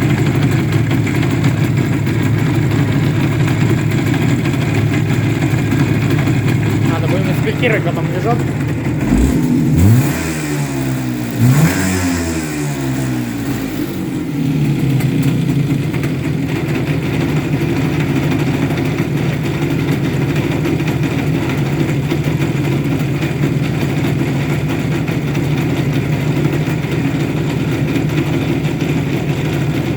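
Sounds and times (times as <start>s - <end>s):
motorcycle engine revving and idling: 0.0s - 29.9s
rattling engine knock: 0.0s - 29.9s.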